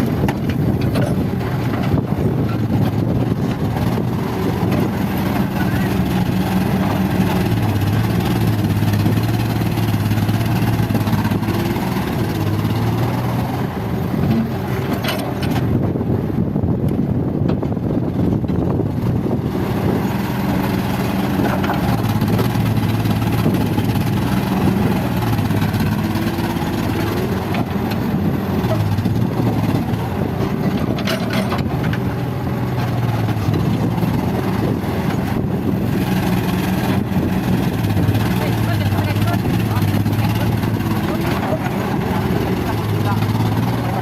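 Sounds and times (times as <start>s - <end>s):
heavy diesel engine running: 0.0s - 44.0s.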